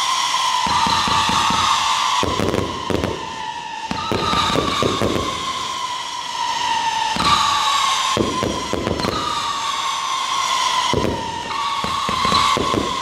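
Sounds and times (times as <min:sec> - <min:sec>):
fireworks bangs: 0:00.0 - 0:13.0
fireworks crackling bursts: 0:00.0 - 0:13.0
fireworks whistles falling: 0:00.0 - 0:13.0.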